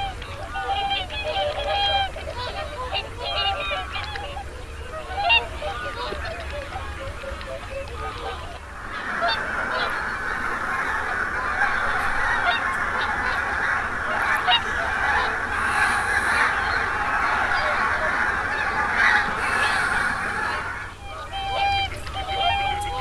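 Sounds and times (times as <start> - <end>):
geese honking: 0.1 - 23.0.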